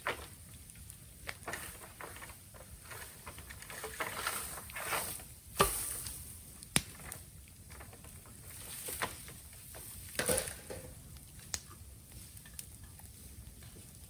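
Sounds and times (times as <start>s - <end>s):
bonfire crackling: 0.0s - 14.0s
sharp pops from fire: 0.0s - 14.0s.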